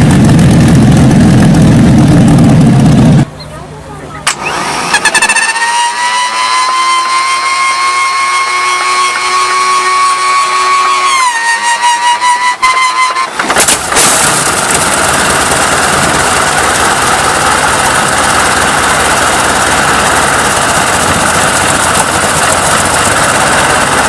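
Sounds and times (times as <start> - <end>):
powerful engine starting and running: 0.0 - 24.0.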